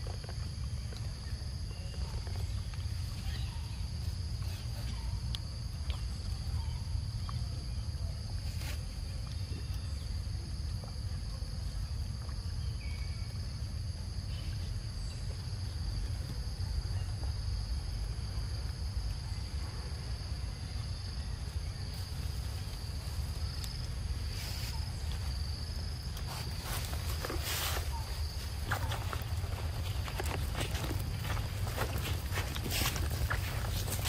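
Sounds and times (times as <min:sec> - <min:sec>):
forest insects droning: 0:00.0 - 0:34.0.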